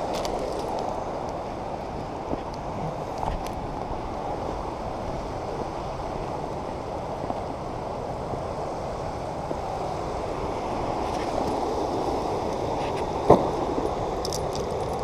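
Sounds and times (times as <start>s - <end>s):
river water over waterfall: 0.0s - 15.0s.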